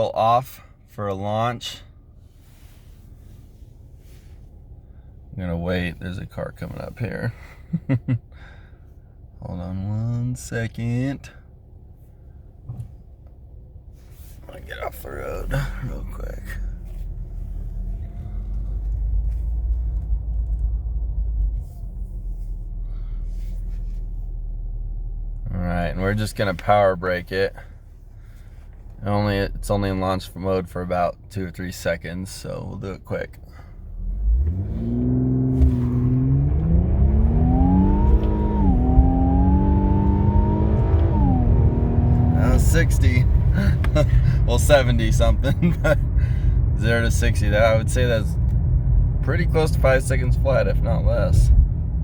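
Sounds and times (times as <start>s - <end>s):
car engine rumble inside cabin: 0.0s - 52.0s.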